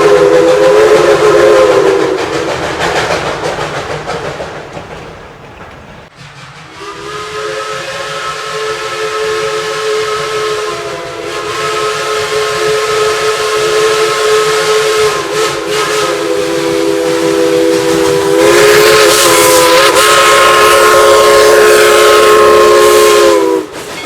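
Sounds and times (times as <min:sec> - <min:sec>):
locomotive steam whistle: 0:00.0 - 0:02.5, 0:06.5 - 0:24.0.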